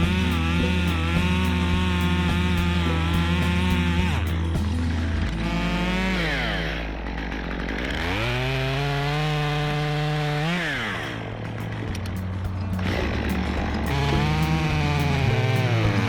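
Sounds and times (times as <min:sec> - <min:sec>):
chainsaw engine revving: 0:00.0 - 0:16.0.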